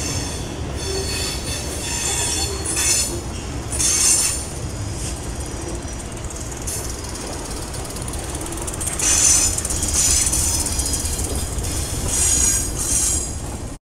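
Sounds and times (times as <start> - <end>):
train wheels squealing on track: 0.0 - 13.6.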